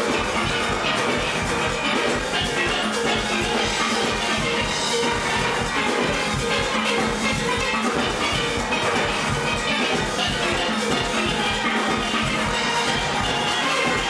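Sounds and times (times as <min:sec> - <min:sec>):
steady drum beat: 0:00.0 - 0:14.0
steelpans playing soca tune: 0:00.0 - 0:14.0.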